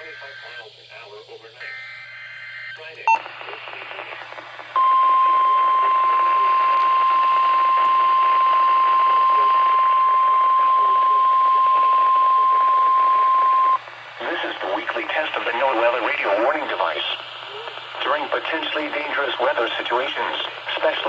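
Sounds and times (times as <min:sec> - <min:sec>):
radio static: 0:00.0 - 0:01.8, 0:02.8 - 0:21.0.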